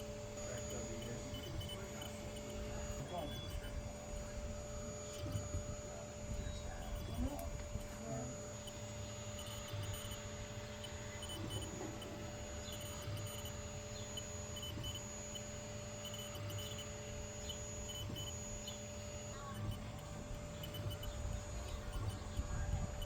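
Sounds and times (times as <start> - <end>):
high-pitched motor whines: 0.0 - 23.0
laser engraver humming: 0.0 - 23.0.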